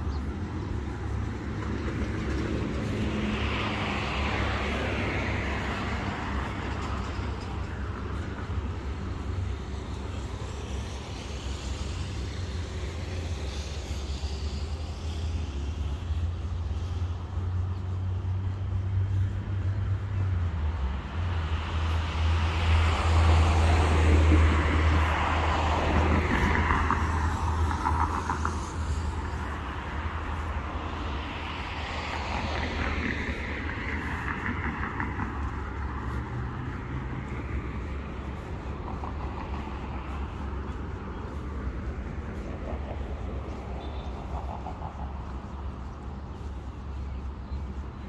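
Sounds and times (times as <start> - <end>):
low traffic rumble: 0.0 - 48.0
vehicle passing hiss: 0.0 - 48.0.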